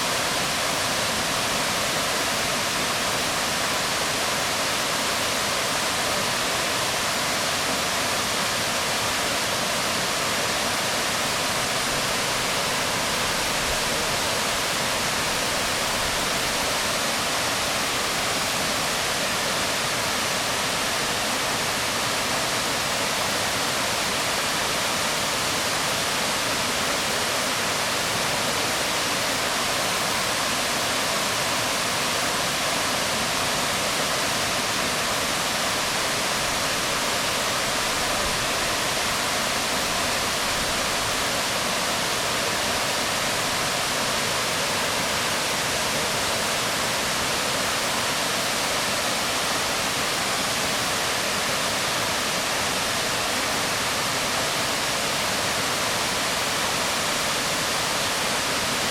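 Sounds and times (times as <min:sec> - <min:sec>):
waterfall rushing onto rocks: 0:00.0 - 0:58.9.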